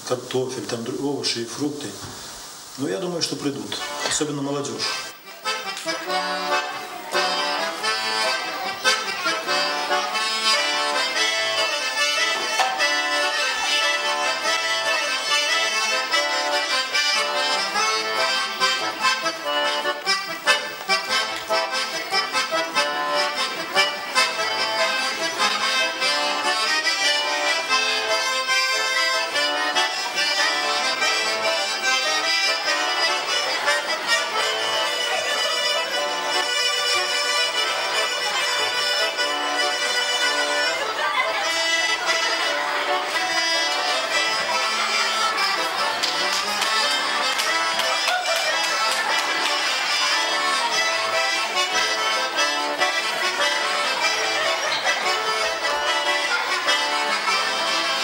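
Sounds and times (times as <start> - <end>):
accordion music: 2.5 - 58.0.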